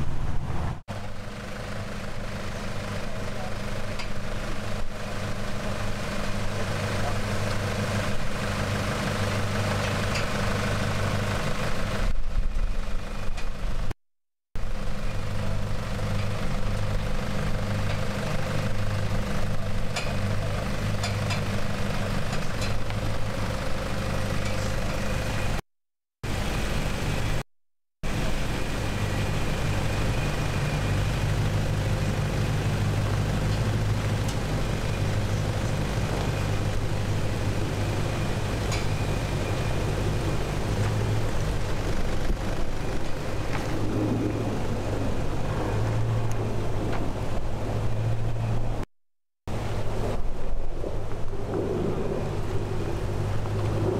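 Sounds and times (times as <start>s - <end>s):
engine running at low revs: 0.0s - 14.0s, 14.6s - 25.6s, 26.2s - 48.9s, 49.5s - 53.9s.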